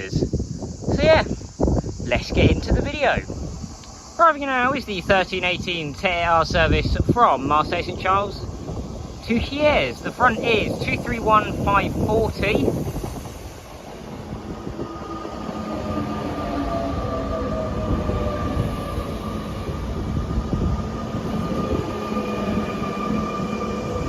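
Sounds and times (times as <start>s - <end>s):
train rumbling past with whine: 1.6s - 24.0s.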